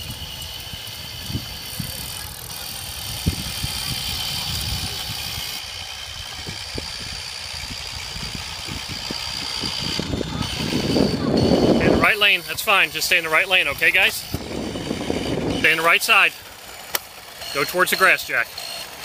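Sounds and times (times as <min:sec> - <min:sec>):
electric scooter motor whine: 0:00.0 - 0:19.0.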